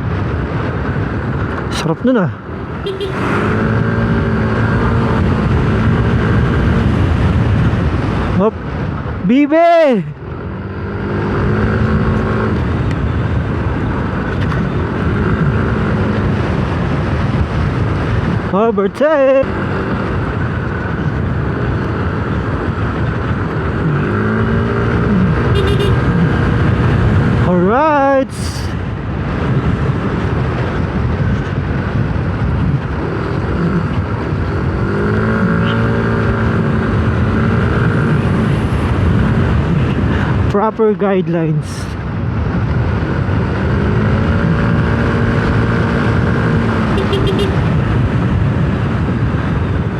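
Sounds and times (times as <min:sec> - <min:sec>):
wind and road noise: 0:00.0 - 0:49.9.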